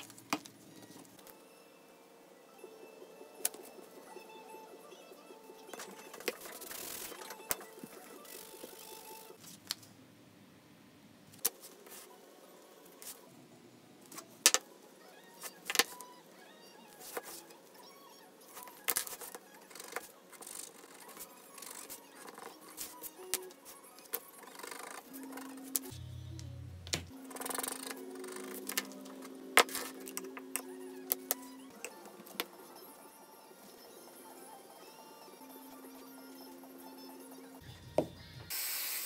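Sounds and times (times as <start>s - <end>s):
quiet background music: 0.0s - 39.0s.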